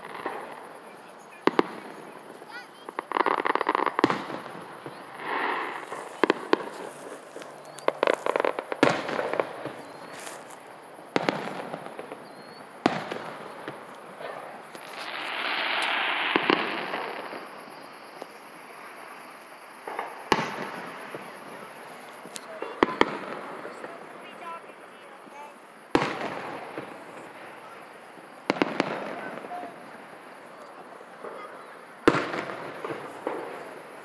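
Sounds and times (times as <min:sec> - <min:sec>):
firework shells bursting: 0:00.0 - 0:34.0
fireworks crackling: 0:00.0 - 0:34.0
fireworks hissing: 0:00.0 - 0:34.0.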